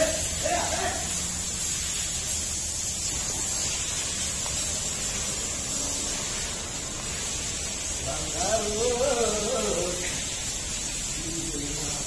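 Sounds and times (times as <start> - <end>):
hose spraying onto concrete: 0.0 - 12.0.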